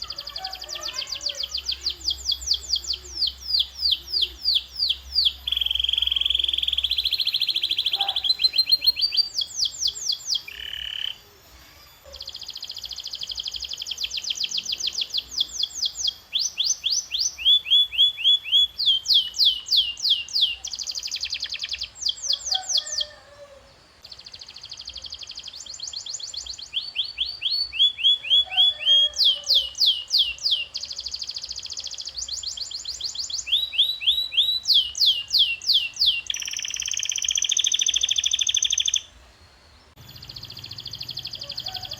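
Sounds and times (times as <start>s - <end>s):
canary singing trills: 0.0s - 39.2s, 39.8s - 41.9s.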